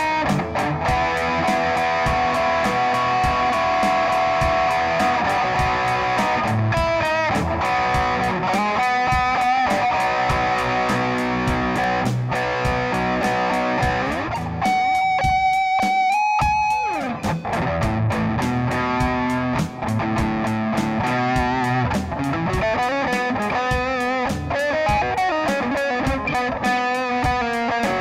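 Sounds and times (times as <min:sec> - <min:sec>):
bass: 0:00.0 - 0:15.6, 0:16.4 - 0:26.6
drum beat: 0:00.0 - 0:28.0
electric guitar solo: 0:00.0 - 0:28.0.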